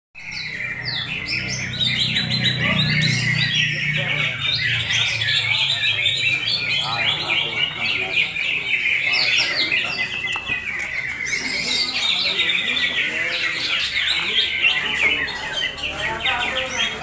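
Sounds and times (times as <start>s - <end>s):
bird singing rapid chirps: 0.2s - 17.0s.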